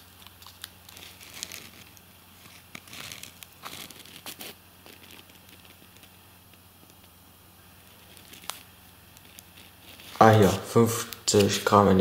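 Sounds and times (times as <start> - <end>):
paper label crinkling: 0.0 - 7.2, 7.8 - 12.0
faint low hum: 0.0 - 12.0.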